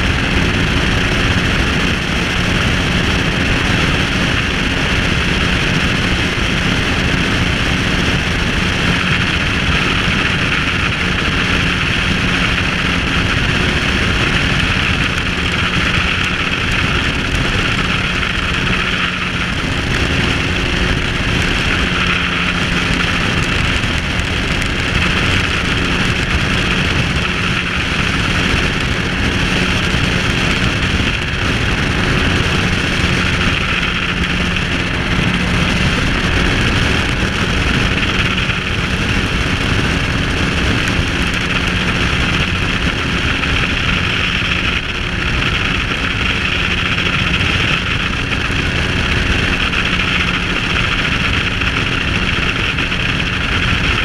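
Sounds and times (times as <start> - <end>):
aircraft engine running: 0.0 - 54.0
wind on microphone: 0.0 - 54.0.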